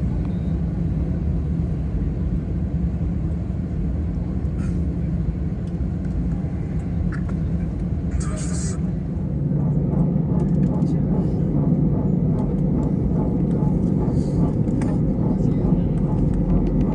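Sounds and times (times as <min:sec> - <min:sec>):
airliner engine rumble in cabin: 0:00.0 - 0:16.9.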